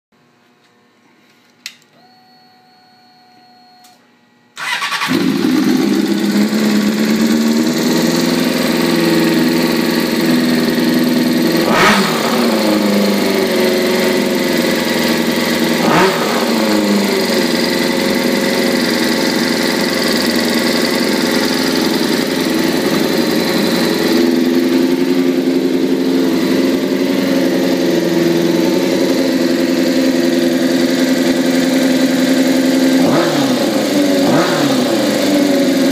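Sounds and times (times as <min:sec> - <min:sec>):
motorcycle engine starting and idling: 0:04.6 - 0:35.9.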